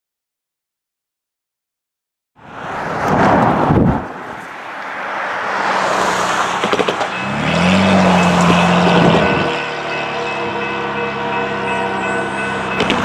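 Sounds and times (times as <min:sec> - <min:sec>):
train rushing noise: 0:02.4 - 0:13.0.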